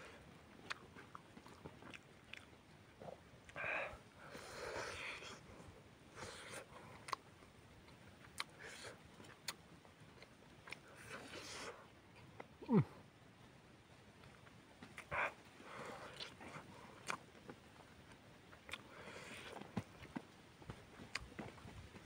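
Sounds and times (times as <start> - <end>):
man chewing and smacking lips: 0.4 - 13.0, 14.2 - 22.0.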